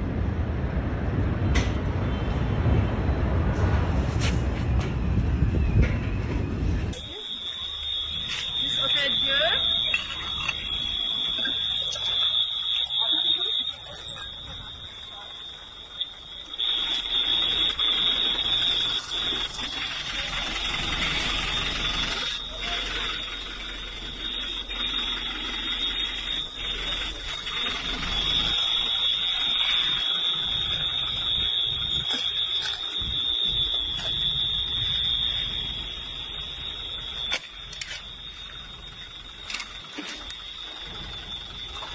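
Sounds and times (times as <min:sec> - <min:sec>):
high-pitched electronic alarm tone: 0:06.6 - 0:41.9.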